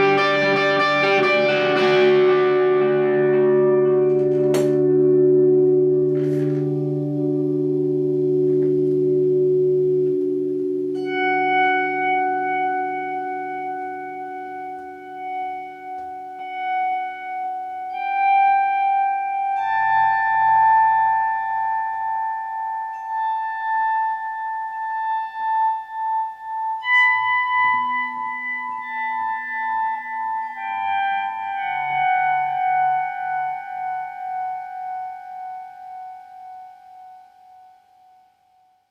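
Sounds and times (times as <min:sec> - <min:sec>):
electric guitar sustained high notes: 0:00.0 - 0:37.8.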